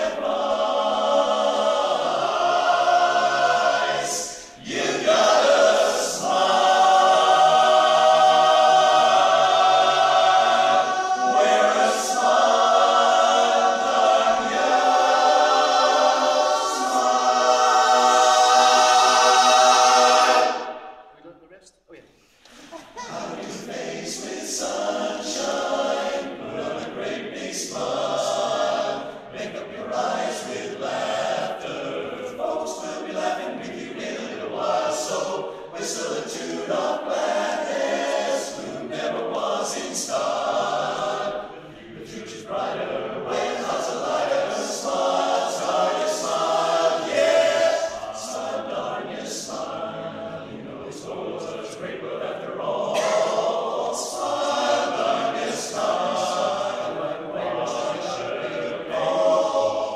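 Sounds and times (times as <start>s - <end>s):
men's chorus singing a cappella: 0.0s - 21.0s, 23.0s - 59.9s.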